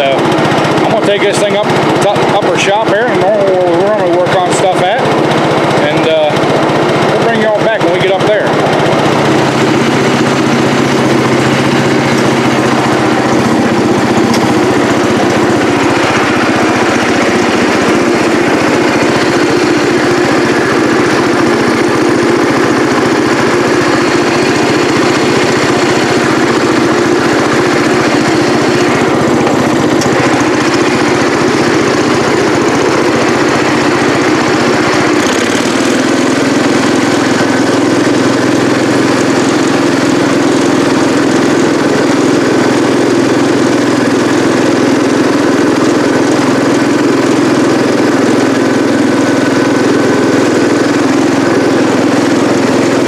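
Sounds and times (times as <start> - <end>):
lawn tractor engine running: 0.0 - 53.0.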